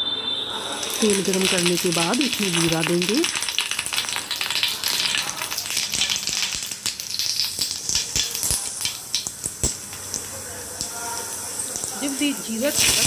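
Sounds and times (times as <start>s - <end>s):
seeds sizzling in hot oil: 0.6s - 13.0s
small crackling pops: 1.0s - 12.1s.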